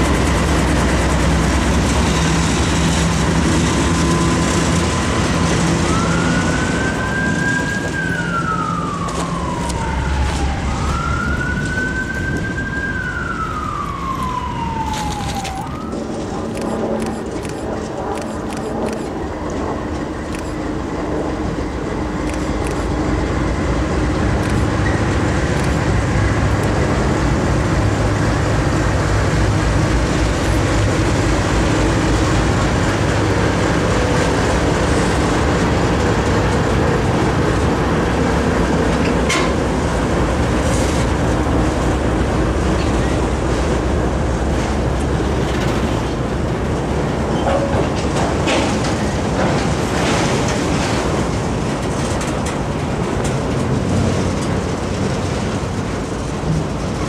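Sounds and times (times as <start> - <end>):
diesel locomotive engine passing: 0.0 - 57.0.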